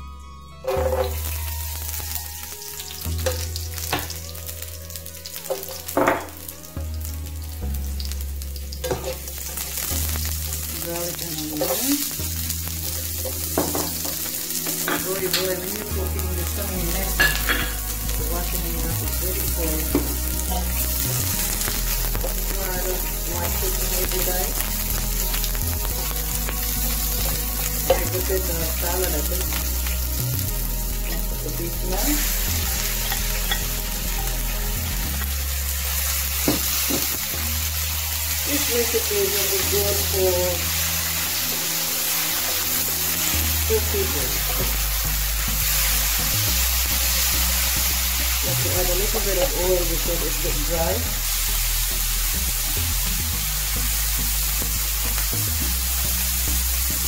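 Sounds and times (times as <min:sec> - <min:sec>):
garlic and onion sizzling in oil: 0:00.0 - 0:57.0.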